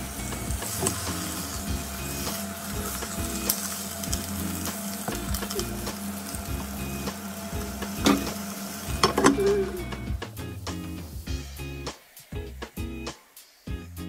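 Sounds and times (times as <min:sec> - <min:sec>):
fish sizzling in a pot: 0:00.0 - 0:13.9
soft background music: 0:00.0 - 0:14.0.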